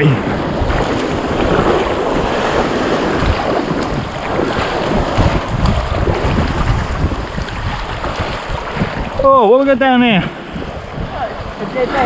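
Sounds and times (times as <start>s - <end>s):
water sloshing and splashing: 0.0s - 12.0s
wind buffeting microphone: 0.0s - 12.0s.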